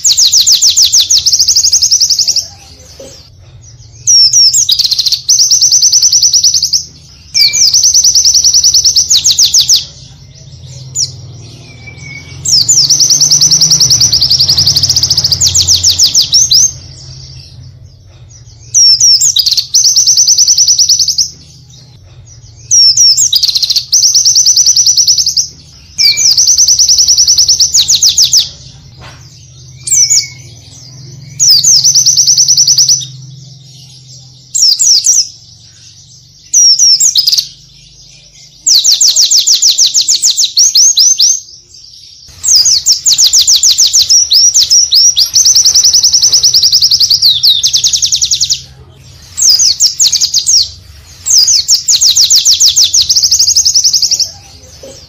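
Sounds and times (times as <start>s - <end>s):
bird singing fast rolling song: 0.0s - 2.6s, 3.6s - 54.5s.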